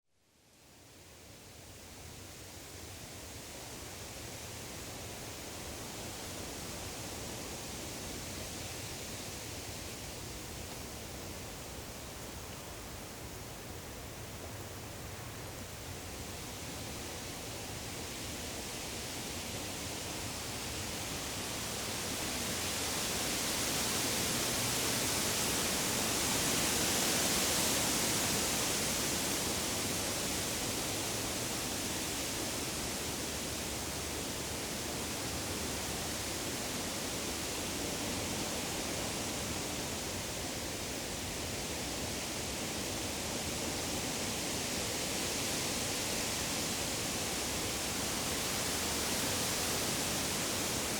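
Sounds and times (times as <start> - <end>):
wind rustling through leaves: 0.2 - 50.9.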